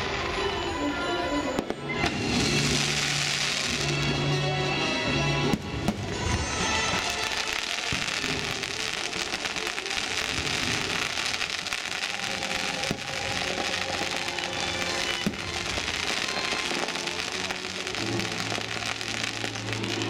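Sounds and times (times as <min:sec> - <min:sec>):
fireworks crackling: 0:00.0 - 0:20.0
music: 0:00.0 - 0:20.0
firework bangs: 0:01.5 - 0:04.1, 0:05.5 - 0:20.0.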